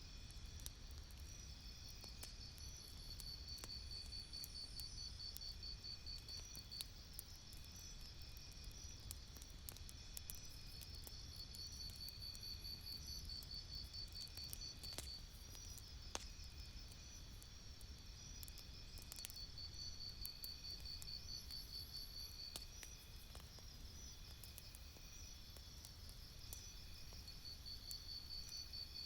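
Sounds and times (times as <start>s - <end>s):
campfire crackling and popping: 0.1s - 29.0s.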